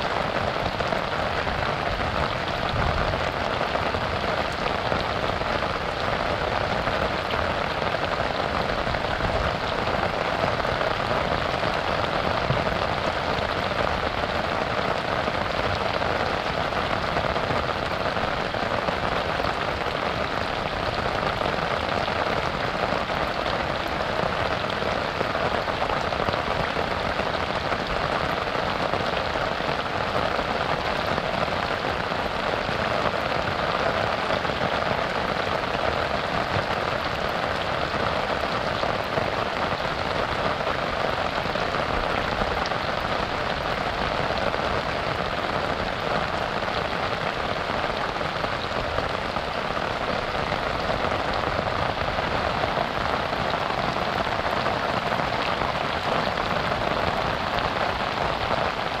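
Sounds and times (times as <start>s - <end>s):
rain falling on a river: 0.0s - 59.0s.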